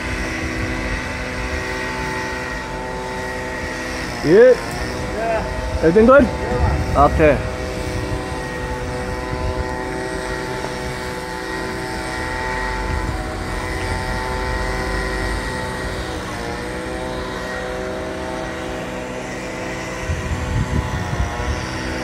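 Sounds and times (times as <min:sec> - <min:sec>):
tree-cutting equipment engine droning: 0:00.0 - 0:22.0.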